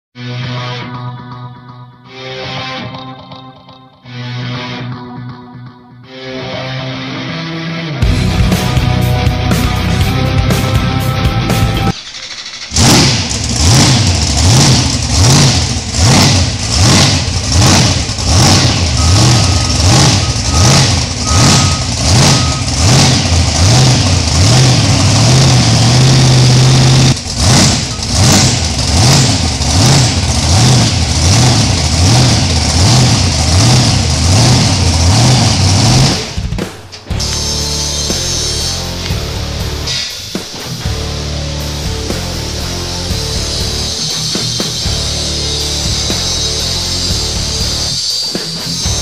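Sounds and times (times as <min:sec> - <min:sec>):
truck engine revving: 0:08.0 - 0:39.9, 0:40.6 - 0:49.0.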